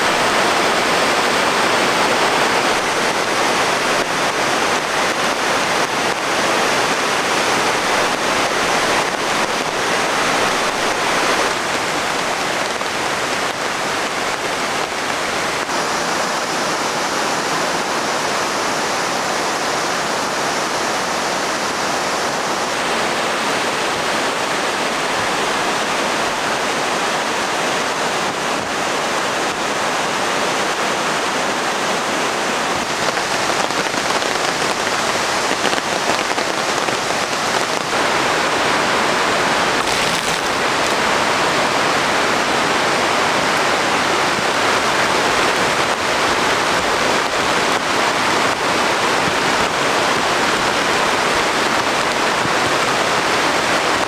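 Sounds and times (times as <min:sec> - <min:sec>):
waterfall rushing into stream: 0:00.0 - 0:54.0.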